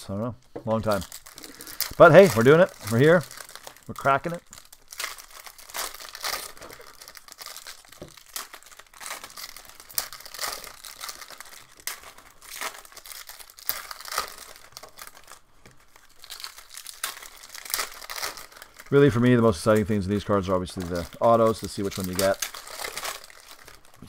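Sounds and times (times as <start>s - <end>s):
plastic wrapping crinkling and ripping: 0.1s - 24.0s.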